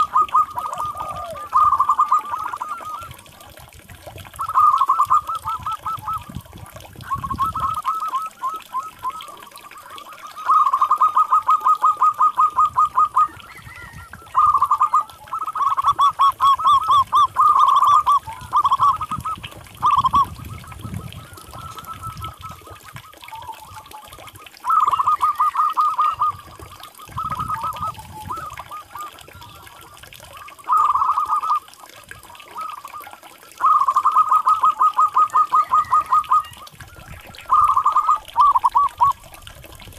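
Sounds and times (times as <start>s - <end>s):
dove cooing: 0.0s - 39.5s.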